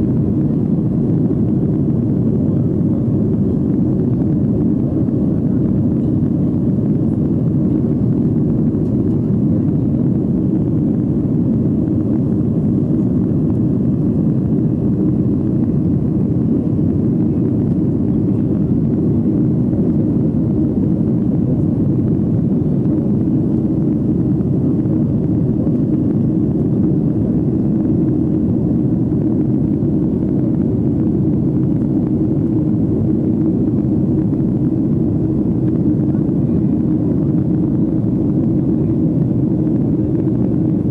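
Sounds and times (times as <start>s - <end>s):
jet engines and airflow rushing: 0.0s - 40.9s.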